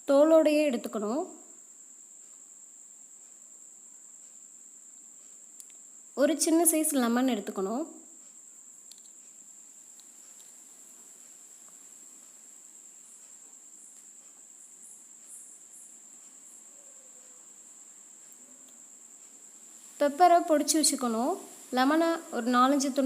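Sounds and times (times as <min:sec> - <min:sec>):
high-pitched insect trill: 0:00.0 - 0:23.0
room hiss: 0:00.0 - 0:23.0.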